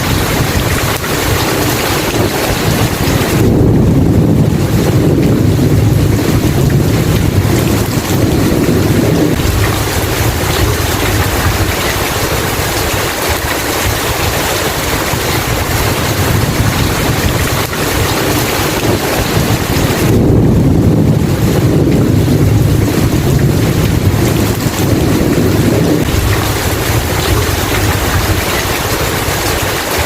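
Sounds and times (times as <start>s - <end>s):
heavy rain falling: 0.0s - 30.0s
thunder rumbling: 0.0s - 30.0s.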